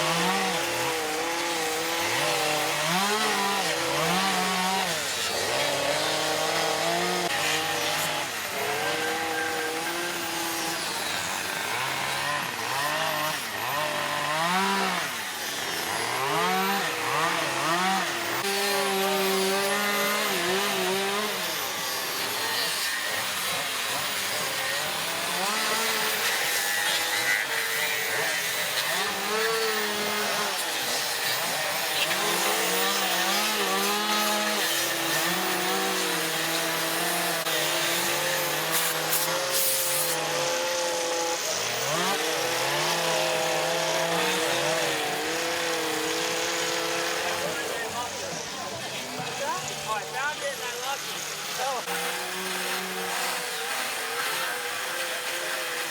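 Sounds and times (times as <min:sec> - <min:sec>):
chainsaws cutting wood: 0:00.0 - 0:55.9.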